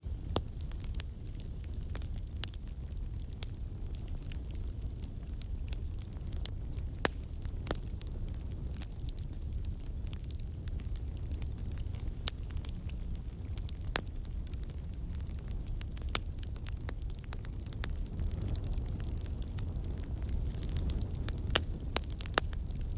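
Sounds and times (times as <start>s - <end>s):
burning wood crackling and popping: 0.0s - 22.9s
fire flames rumbling: 0.0s - 22.9s.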